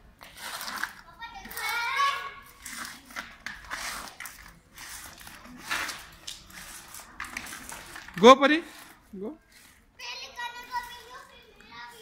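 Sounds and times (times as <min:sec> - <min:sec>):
roller skates on concrete: 0:00.0 - 0:12.0.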